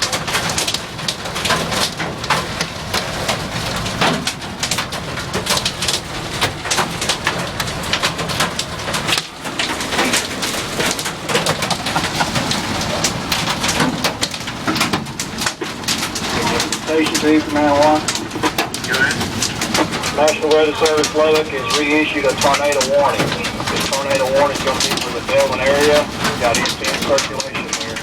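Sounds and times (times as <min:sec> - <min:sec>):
hail pelting a vehicle: 0:00.0 - 0:28.0
heavy rain downpour: 0:00.0 - 0:28.0.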